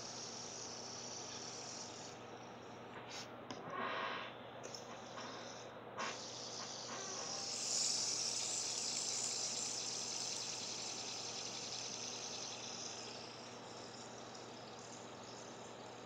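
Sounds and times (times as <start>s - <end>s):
fidget spinner bearing whirring: 0.0s - 3.2s, 4.6s - 16.0s.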